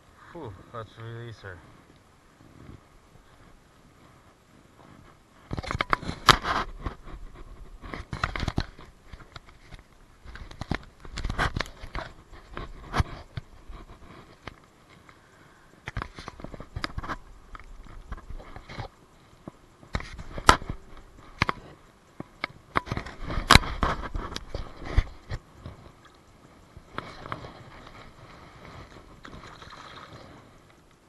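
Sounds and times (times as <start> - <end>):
clothing and grass rustling: 0.0 - 31.0.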